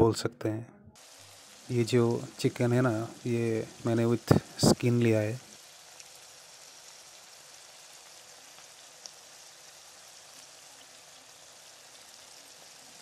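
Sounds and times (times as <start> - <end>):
food sizzling in hot oil: 1.0 - 13.0.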